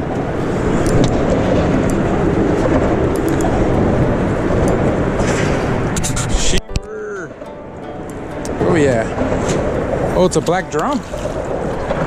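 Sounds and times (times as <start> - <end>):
loud rushing rumble: 0.0 - 12.0.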